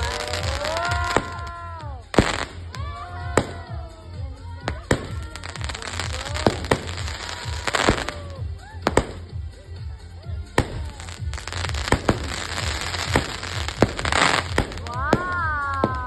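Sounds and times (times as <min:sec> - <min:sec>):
firework bangs: 0:00.0 - 0:03.7, 0:04.7 - 0:08.3, 0:08.9 - 0:09.3, 0:10.6 - 0:16.0
firework crackling: 0:00.0 - 0:16.0.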